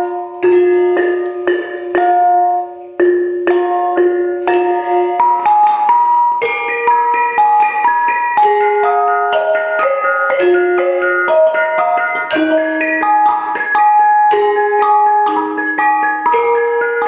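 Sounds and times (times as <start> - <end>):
kettle gongs struck with mallets: 0.0 - 17.0.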